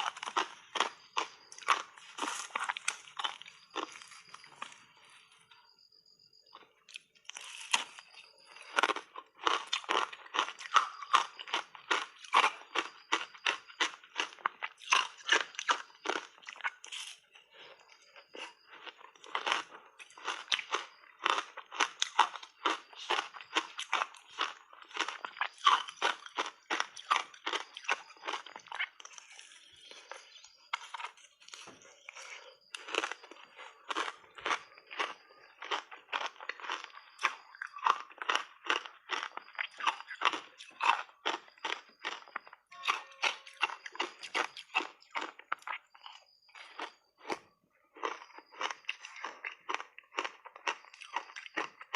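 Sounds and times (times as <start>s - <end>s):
ice cubes crunching: 0.0s - 5.1s, 6.9s - 47.4s, 48.0s - 51.9s.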